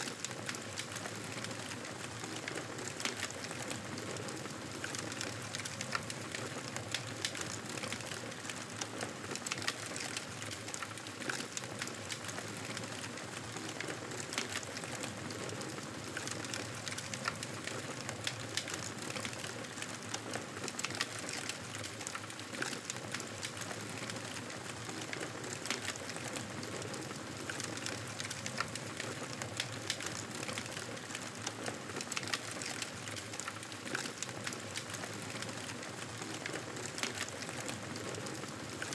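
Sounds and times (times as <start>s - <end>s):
campfire crackling and hissing: 0.0s - 38.9s.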